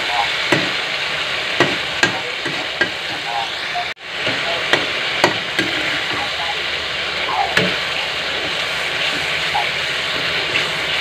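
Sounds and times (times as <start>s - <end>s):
gravy sizzling in frying pan: 0.0s - 11.0s.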